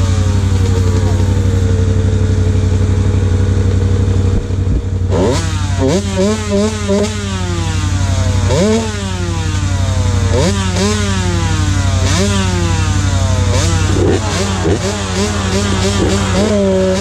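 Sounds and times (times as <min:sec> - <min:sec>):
dirt bike engine revving: 0:00.0 - 0:17.0
low engine drone: 0:00.0 - 0:17.0.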